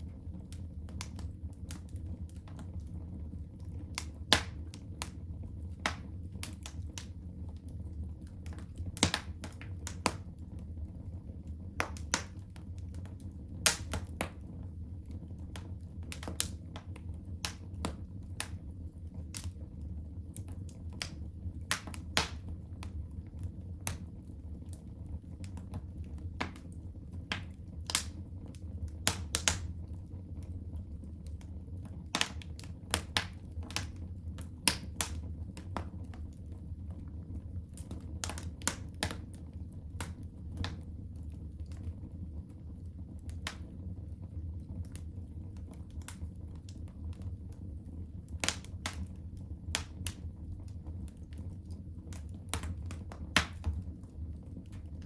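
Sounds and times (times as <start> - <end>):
fire crackling and popping: 0.0 - 55.0
low rumble of flame: 0.0 - 55.0.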